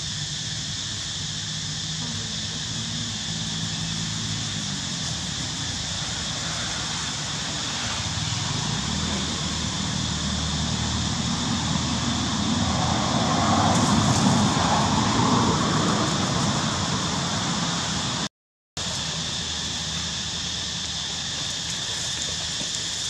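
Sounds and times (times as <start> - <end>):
constant high hum: 0.0 - 23.0
engine drone: 0.0 - 23.0.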